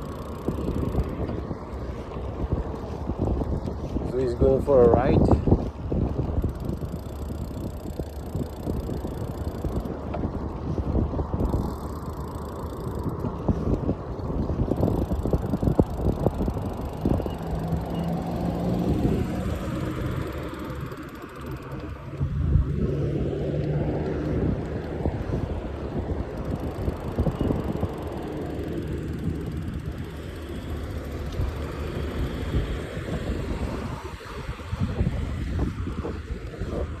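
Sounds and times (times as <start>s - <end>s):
bike rattling: 0.0s - 37.0s
motor vehicle engine hum: 0.0s - 37.0s
wind buffeting microphone: 0.0s - 37.0s.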